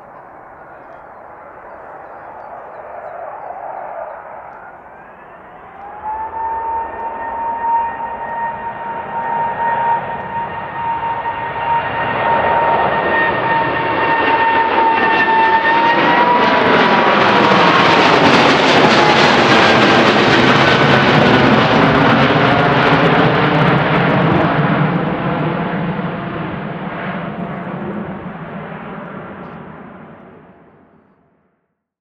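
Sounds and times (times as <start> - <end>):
jet engine fan whine: 0.0 - 30.5
jet roar: 0.0 - 31.0.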